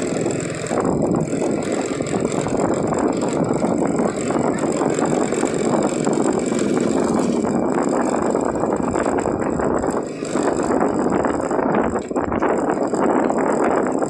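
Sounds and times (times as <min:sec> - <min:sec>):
motor scooter engine running: 0:00.0 - 0:14.0
rush of wind while riding: 0:00.0 - 0:14.0.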